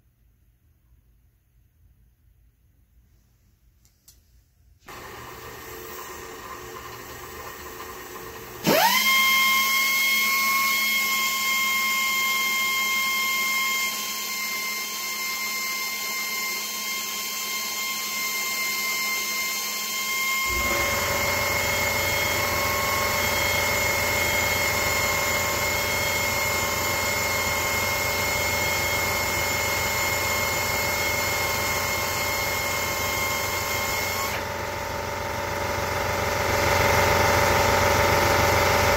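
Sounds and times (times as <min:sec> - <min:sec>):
belt sander whine: 0:04.9 - 0:38.9
drill press running: 0:04.9 - 0:38.9.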